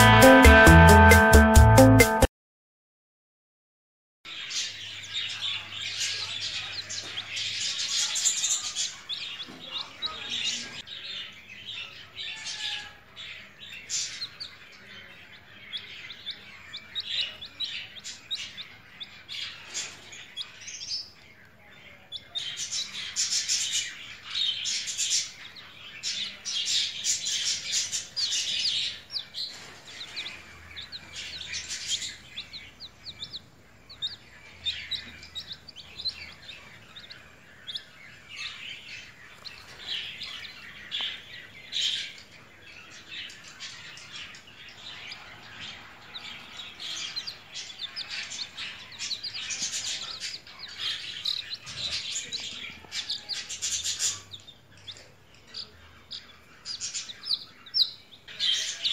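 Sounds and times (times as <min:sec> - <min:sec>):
chicks peeping: 0:00.0 - 0:02.3, 0:04.3 - 0:58.9.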